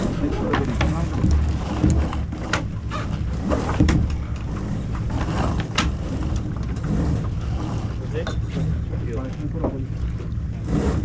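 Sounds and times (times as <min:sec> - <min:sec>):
boat gear knocking and rattling: 0:00.0 - 0:11.0
water noise: 0:00.0 - 0:11.0.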